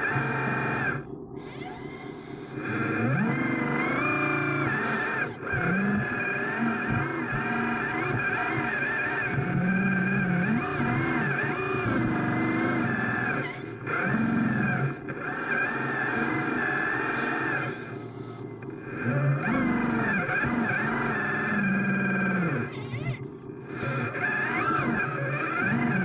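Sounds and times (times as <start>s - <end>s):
electric motors and gears whining: 0.0s - 26.0s.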